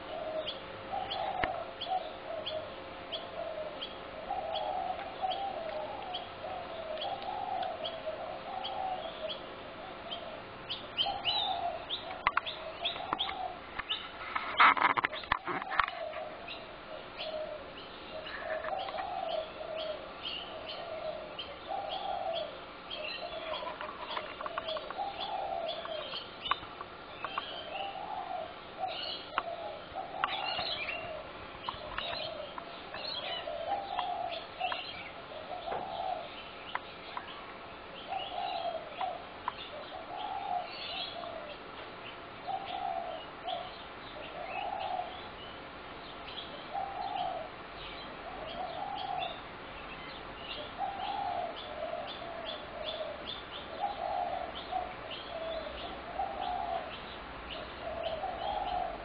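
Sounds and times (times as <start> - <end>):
doves cooing: 0.0 - 59.0.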